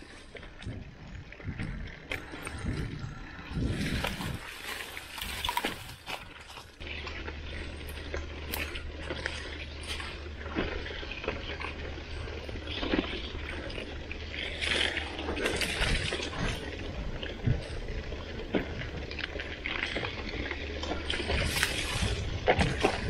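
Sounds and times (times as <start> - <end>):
bike rattling over bumps: 0.0 - 23.0
steady low rumble: 0.0 - 23.0.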